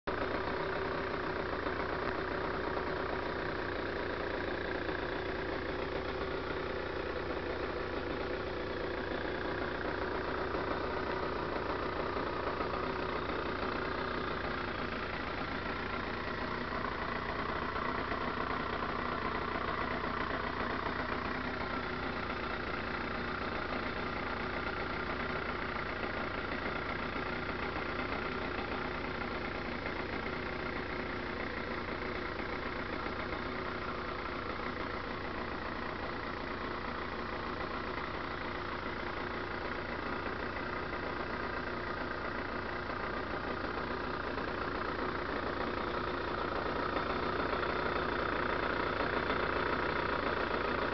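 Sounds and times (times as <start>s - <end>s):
two-stroke motorcycle engine cruising: 0.0s - 50.9s.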